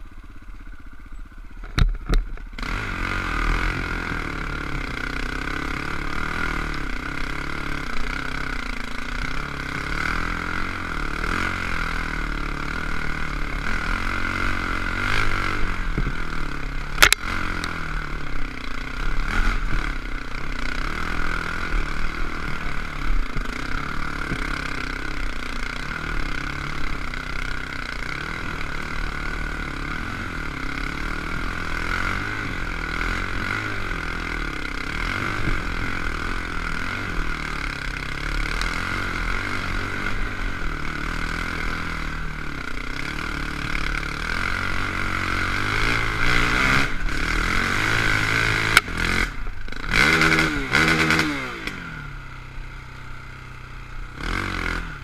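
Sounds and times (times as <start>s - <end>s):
dirt bike engine revving: 0.0s - 55.0s
engine idling: 0.0s - 55.0s.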